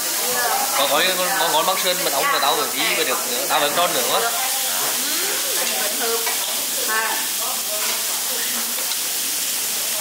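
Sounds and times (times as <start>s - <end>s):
meat sizzling on a grill plate: 0.0s - 10.0s.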